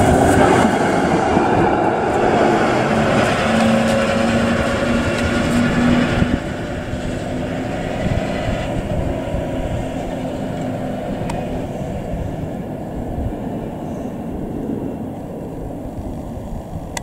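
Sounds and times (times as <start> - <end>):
electric tram motor hum: 0.0 - 17.0
wheels rumbling on rails: 0.0 - 17.0.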